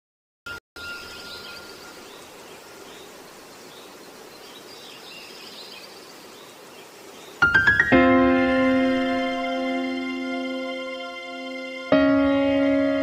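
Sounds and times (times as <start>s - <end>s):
birds chirping: 0.5s - 13.0s
outdoor background hiss: 0.8s - 13.0s.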